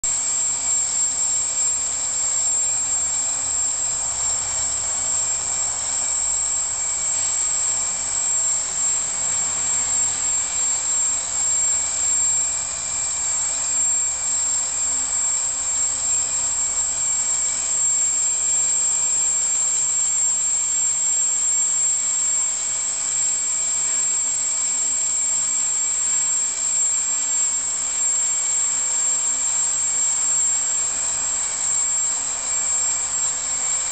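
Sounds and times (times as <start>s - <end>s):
drone motors whining: 0.0s - 33.9s.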